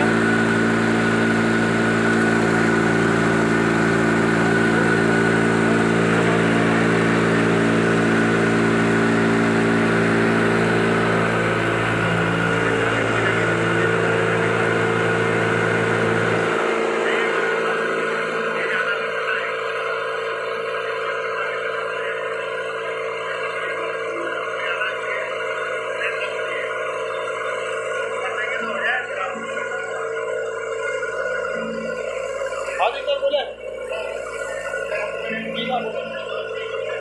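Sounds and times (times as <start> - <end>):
grinder machine hum: 0.0 - 37.0.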